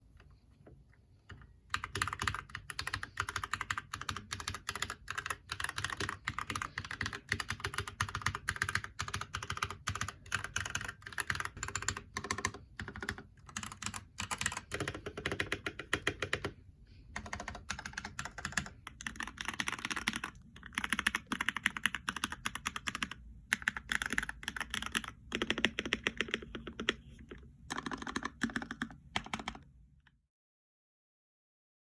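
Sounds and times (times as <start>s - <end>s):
mechanical keyboard typing: 1.3s - 16.6s, 17.2s - 29.7s.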